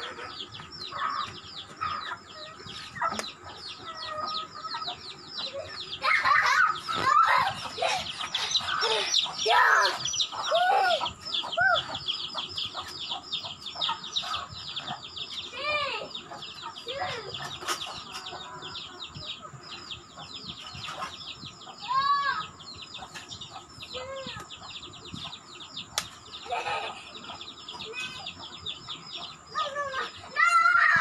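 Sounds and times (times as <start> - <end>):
chickens clucking: 0.0 - 30.4.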